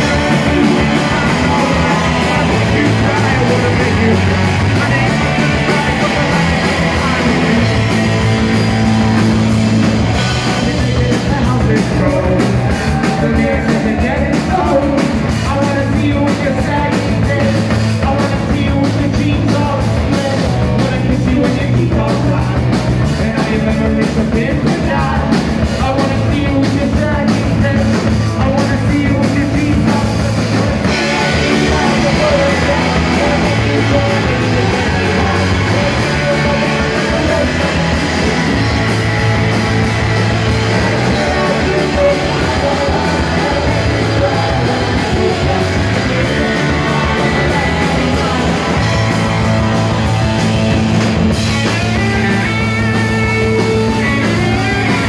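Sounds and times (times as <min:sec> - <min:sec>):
live punk rock band: 0:00.0 - 0:55.0.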